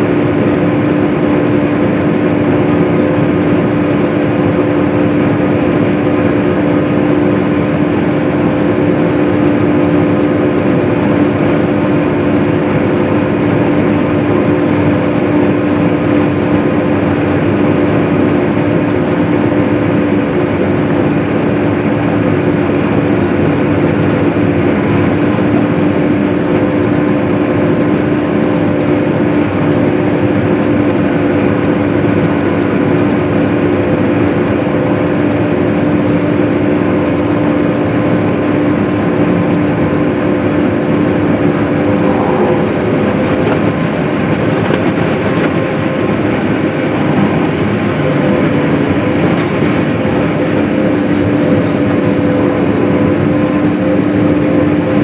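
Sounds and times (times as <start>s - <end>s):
swather engine drone: 0.0s - 55.0s.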